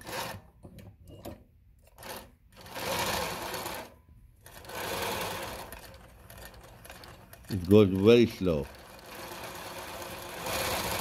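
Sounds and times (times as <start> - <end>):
sewing machine stitching: 0.0 - 11.0.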